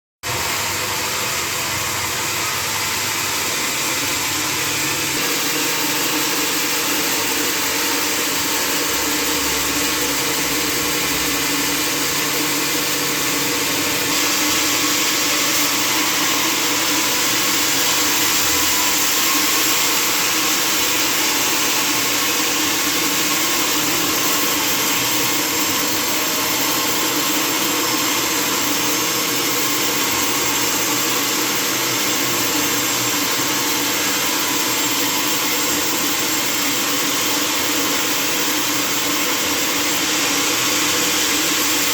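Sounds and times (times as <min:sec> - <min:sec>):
sawmill machinery running: 0:00.3 - 0:41.9.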